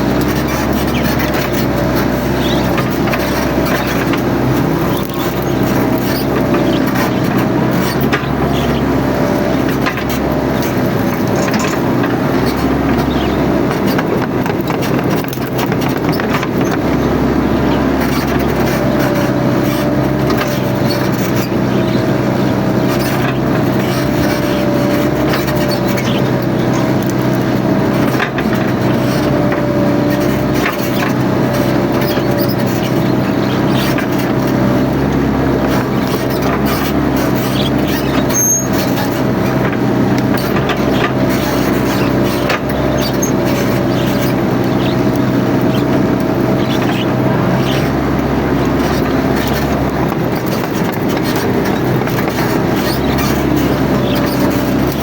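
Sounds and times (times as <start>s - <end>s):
excavator engine running: 0.0s - 55.0s
hydraulic whine: 0.0s - 55.0s.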